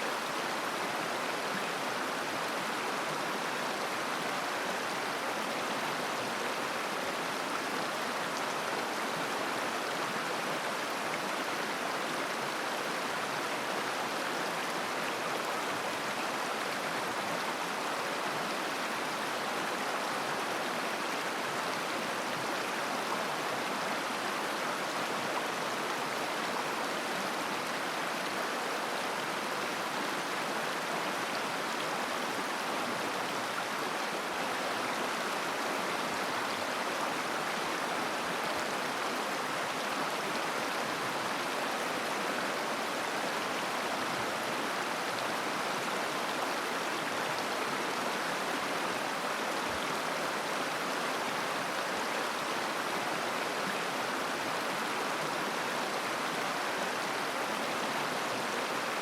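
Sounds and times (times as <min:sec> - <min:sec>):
river babbling: 0:00.0 - 0:59.0.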